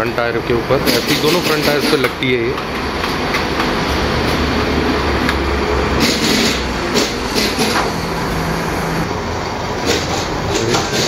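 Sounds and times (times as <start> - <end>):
workshop hum: 0.0 - 11.0.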